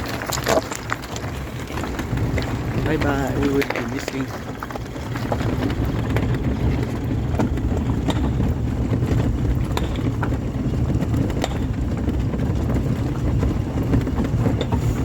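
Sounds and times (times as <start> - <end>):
small clicks and rattles: 0.0 - 15.0
vehicle engine and road rumble: 0.0 - 15.0.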